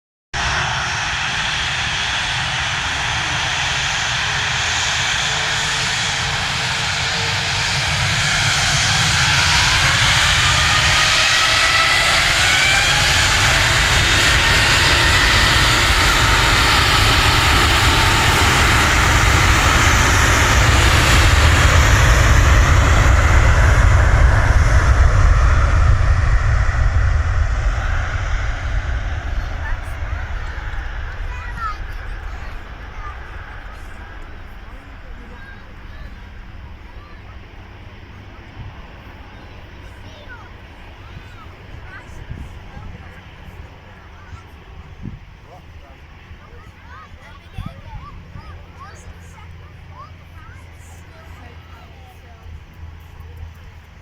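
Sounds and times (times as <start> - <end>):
jet engines rumbling: 0.4 - 54.0
rising engine whine: 0.4 - 54.0.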